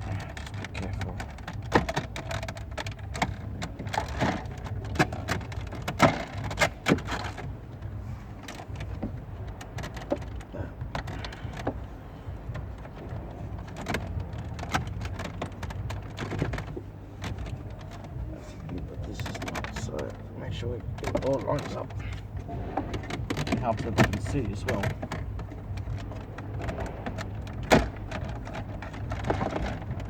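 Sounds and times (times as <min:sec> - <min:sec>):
plastic trim clicks and knocks: 0:00.0 - 0:07.5, 0:08.4 - 0:20.2, 0:20.8 - 0:30.0
steady low rumble: 0:00.0 - 0:30.0.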